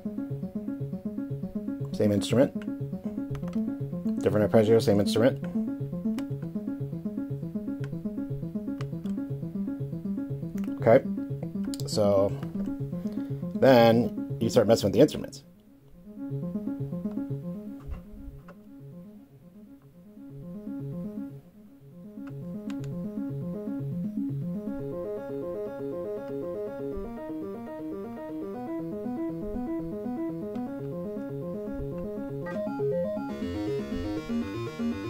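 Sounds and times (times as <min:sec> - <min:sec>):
synthesizer arpeggio: 0:00.0 - 0:35.0.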